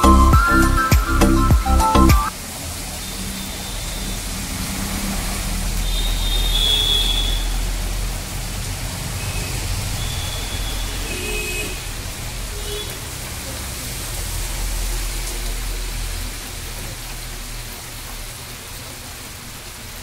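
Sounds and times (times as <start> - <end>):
oil sizzling in deep fryer: 2.3 - 20.0.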